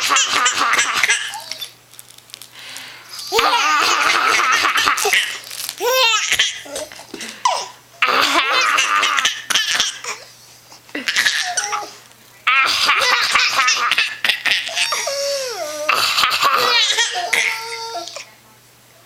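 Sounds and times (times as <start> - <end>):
baby laughing: 0.0 - 1.8, 3.2 - 10.3, 10.9 - 18.2.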